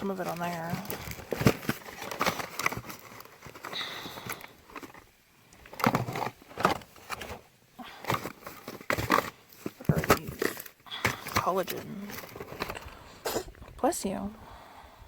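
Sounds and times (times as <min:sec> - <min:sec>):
plastic packaging rustling: 0:00.0 - 0:13.5.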